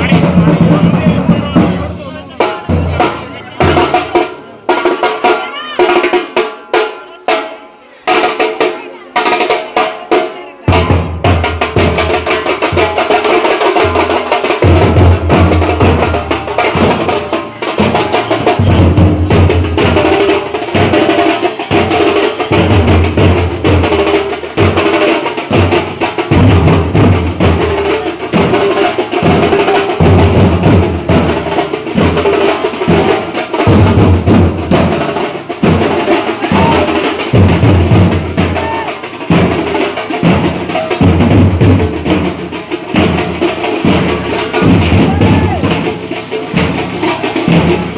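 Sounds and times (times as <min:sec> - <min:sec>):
dense drumming with rolls: 0:00.0 - 0:05.0, 0:10.1 - 0:47.9.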